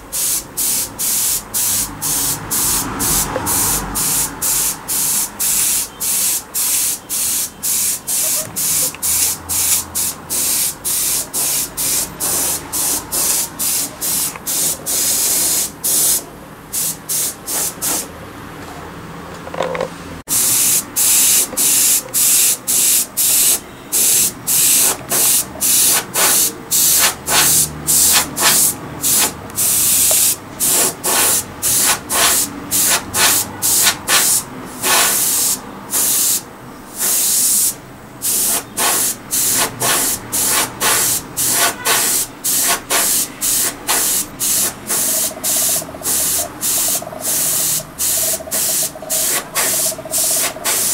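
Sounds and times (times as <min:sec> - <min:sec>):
airbrush spraying hissing bursts: 0:00.0 - 0:18.1, 0:20.3 - 0:50.9.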